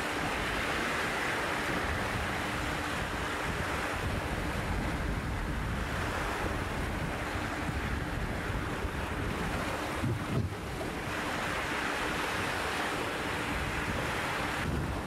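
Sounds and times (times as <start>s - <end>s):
waves breaking over rocks: 0.0s - 15.0s
wind buffeting microphone: 0.0s - 15.0s.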